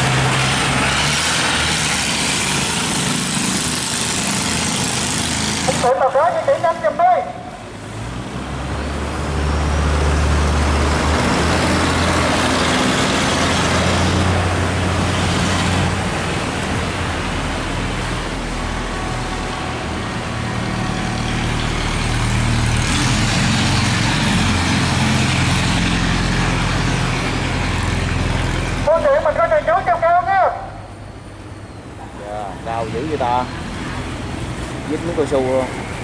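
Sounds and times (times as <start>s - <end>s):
churned water rushing: 0.0s - 30.7s, 32.5s - 36.0s
boat engines droning: 0.0s - 36.0s.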